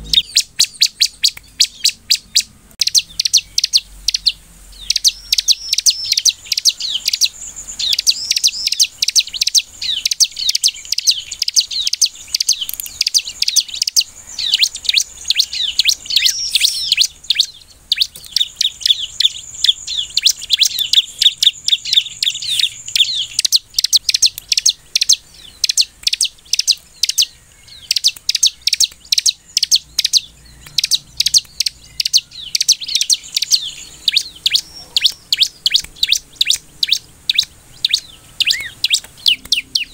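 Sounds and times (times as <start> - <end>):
bird rapid high chirping: 0.0 - 39.9.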